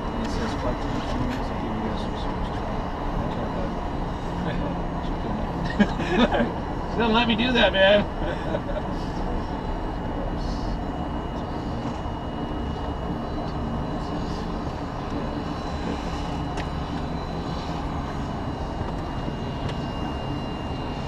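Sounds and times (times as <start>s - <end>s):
helicopter engine and rotor: 0.0s - 21.0s
thin high whine: 0.0s - 21.0s.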